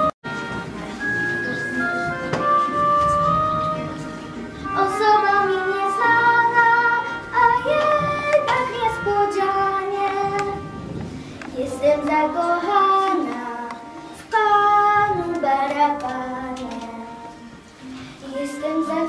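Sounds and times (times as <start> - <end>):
girl singing: 2.8 - 17.5, 18.2 - 19.0.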